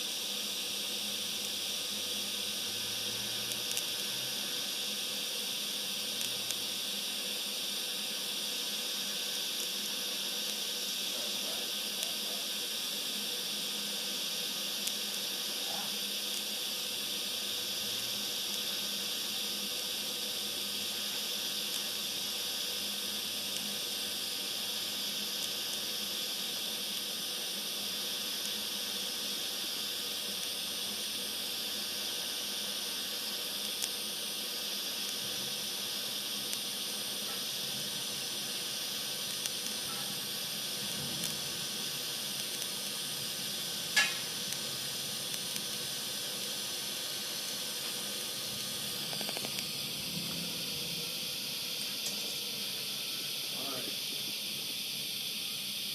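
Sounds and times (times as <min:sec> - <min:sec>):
welding arc hissing: 0:00.0 - 0:55.9.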